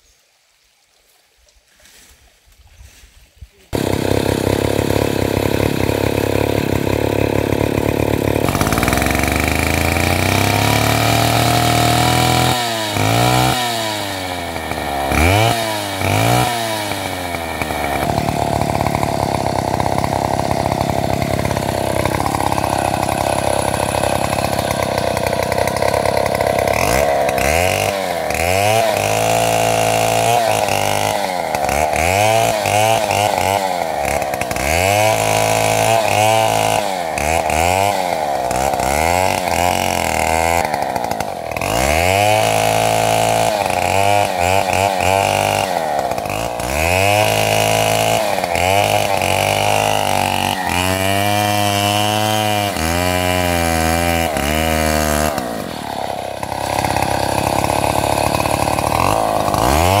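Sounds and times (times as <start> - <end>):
chainsaw cutting wood: 3.7 - 60.0.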